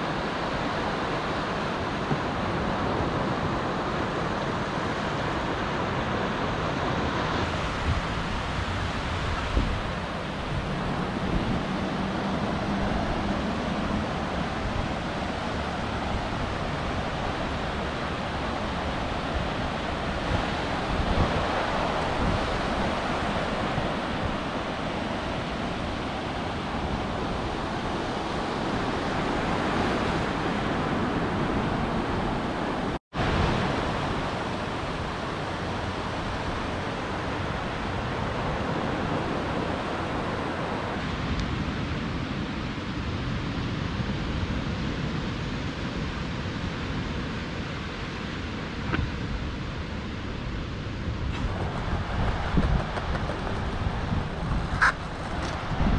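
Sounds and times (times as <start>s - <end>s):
surf breaking and washing on sand: 0.0s - 55.9s
wind rumble on microphone: 0.0s - 55.9s.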